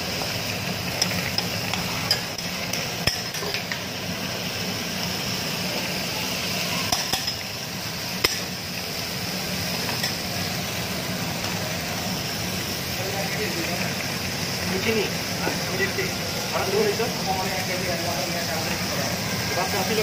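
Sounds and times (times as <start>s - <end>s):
food sizzling on a griddle: 0.0s - 20.0s.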